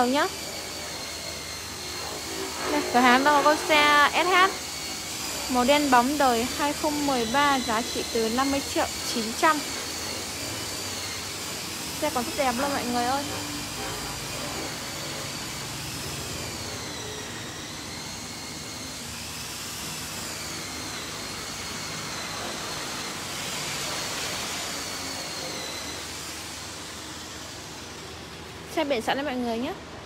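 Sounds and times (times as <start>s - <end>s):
whooshing machine with wavering whine: 0.0s - 30.0s.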